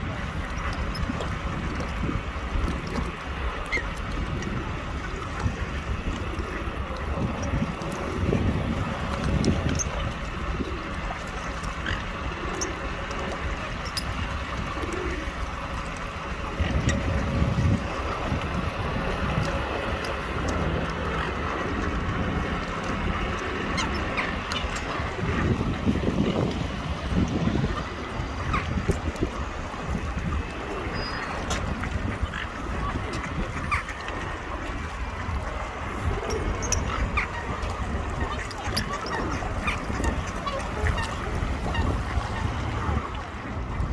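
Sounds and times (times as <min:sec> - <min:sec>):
wind rumble: 0:00.0 - 0:43.9.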